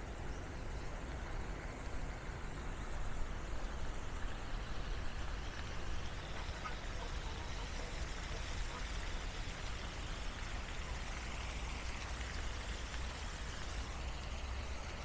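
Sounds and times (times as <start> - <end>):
fountain splashing into pond: 0.0 - 15.0.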